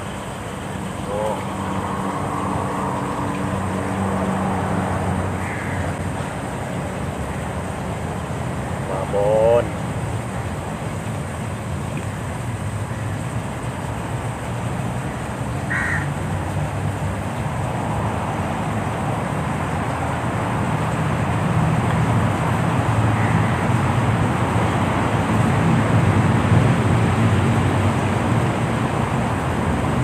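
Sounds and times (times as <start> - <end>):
steady rushing noise: 0.0 - 15.0, 17.0 - 30.0.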